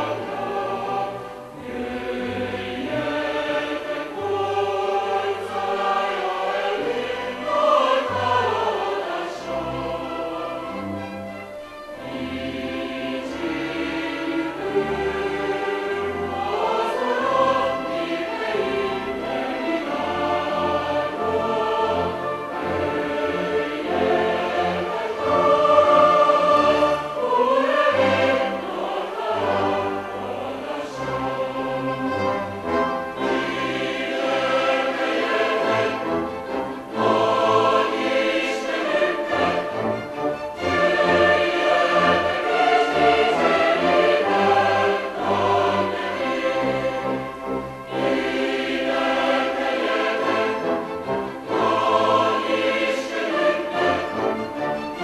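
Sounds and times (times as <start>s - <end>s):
choir singing a hymn: 0.0s - 55.0s
orchestra with cellos and basses: 0.0s - 55.0s.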